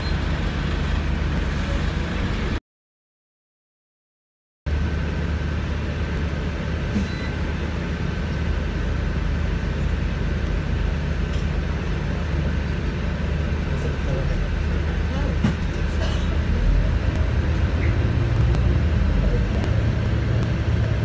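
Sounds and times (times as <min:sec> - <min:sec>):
bus engine and road hum: 0:00.0 - 0:02.6, 0:04.7 - 0:21.0.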